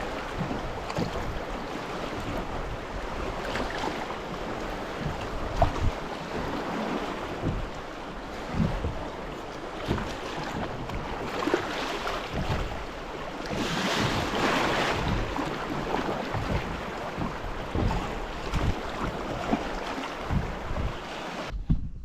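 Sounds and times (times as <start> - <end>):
river water rushing and splashing: 0.0 - 21.5
wind buffeting microphone: 0.0 - 22.0.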